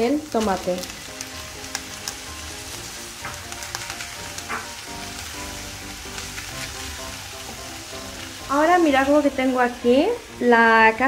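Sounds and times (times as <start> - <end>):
food sizzling in a frying pan: 0.0 - 11.0
soft background music: 0.0 - 11.0.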